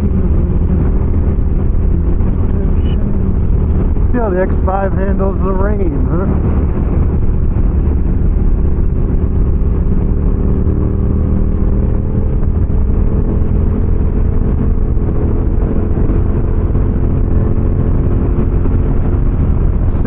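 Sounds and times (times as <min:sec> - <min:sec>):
motorcycle engine running: 0:00.0 - 0:20.0
road noise: 0:00.0 - 0:20.0.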